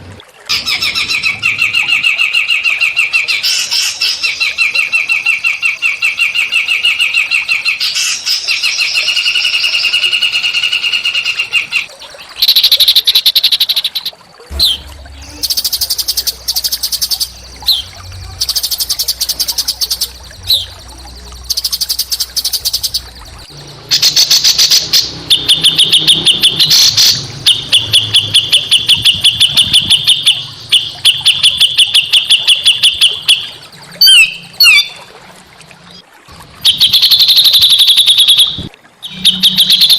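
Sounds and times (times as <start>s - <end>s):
songbirds chattering trills: 0.5s - 35.1s.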